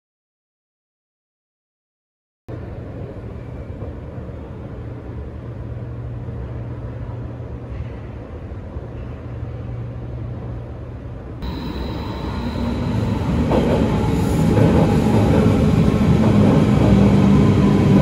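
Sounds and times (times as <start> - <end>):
escalator humming and rumbling: 2.5 - 18.0.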